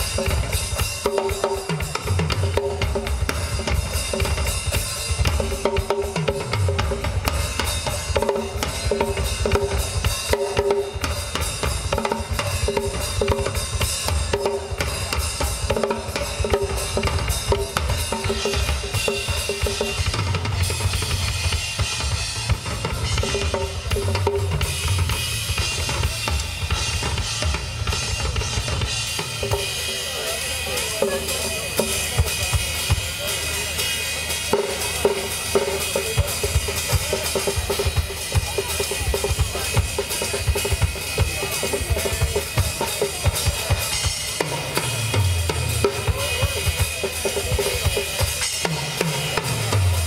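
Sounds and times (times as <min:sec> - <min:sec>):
cymbals washing: 0:00.0 - 0:50.0
drum kit solo: 0:00.0 - 0:50.0.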